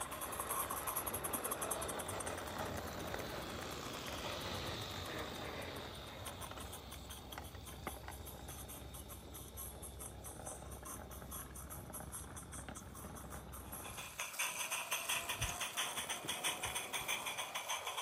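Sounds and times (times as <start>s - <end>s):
steam locomotive chuffing: 0.0s - 18.0s
wagon wheels clicking on track: 0.0s - 18.0s.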